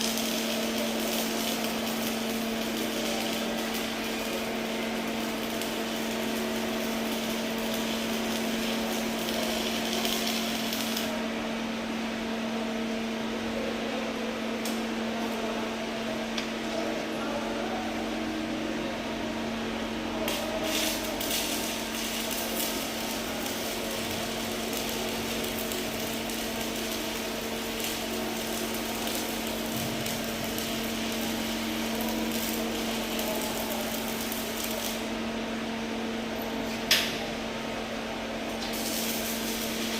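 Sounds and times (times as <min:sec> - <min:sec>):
welding hissing and crackling: 0:00.0 - 0:11.6, 0:19.5 - 0:39.9
welding machine hum: 0:00.0 - 0:39.9.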